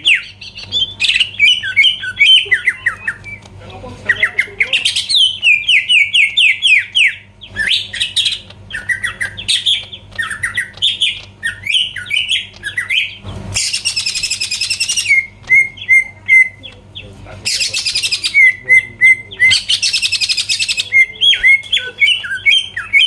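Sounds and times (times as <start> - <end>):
harsh buzzing bird rattle: 0.0 - 23.0.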